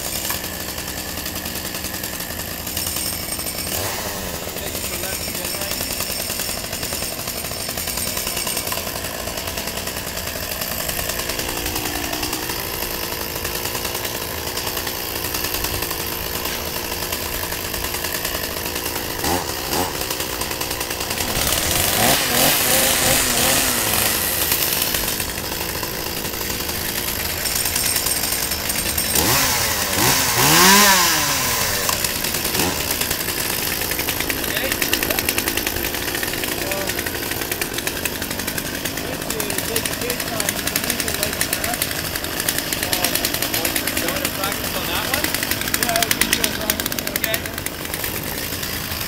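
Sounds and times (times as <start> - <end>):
chainsaws revving: 0.0 - 49.0.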